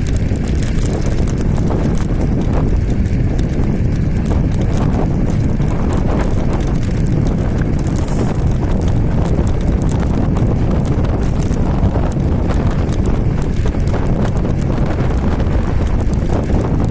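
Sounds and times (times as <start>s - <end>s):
low road rumble: 0.0s - 16.9s
small clicks and rattles: 0.0s - 16.9s
wind buffeting microphone: 0.0s - 16.9s.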